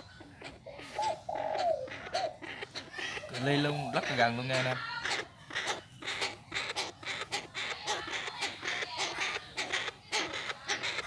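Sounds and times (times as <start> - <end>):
bird calling scratchy notes: 0.0 - 11.0.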